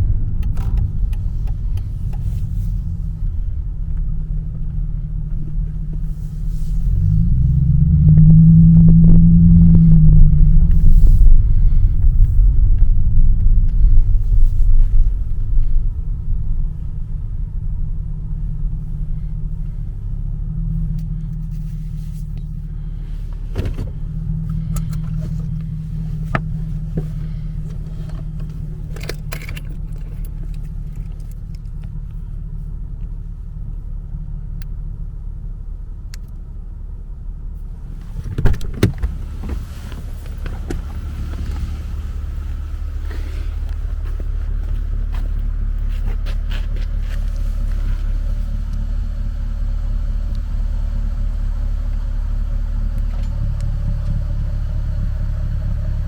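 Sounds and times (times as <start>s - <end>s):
car engine droning: 0.0s - 56.0s.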